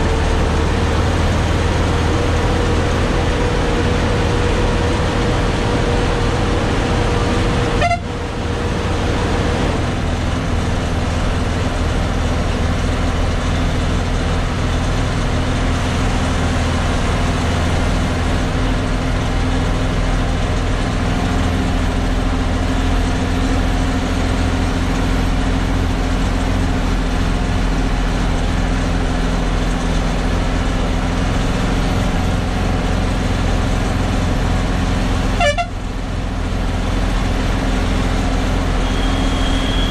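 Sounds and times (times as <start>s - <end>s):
diesel lorry engine drone: 0.0s - 39.9s.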